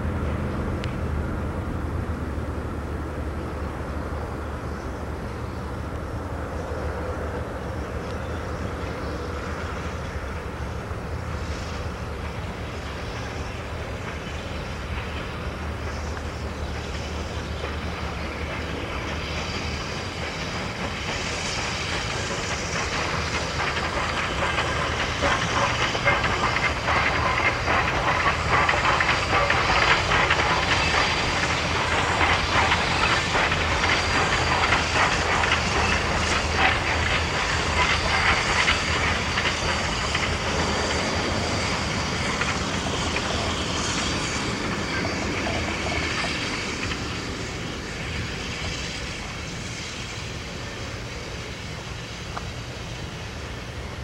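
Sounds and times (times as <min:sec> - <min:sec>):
steam locomotive hissing: 0:00.0 - 0:54.0
train wheels clicking on rails: 0:00.0 - 0:54.0.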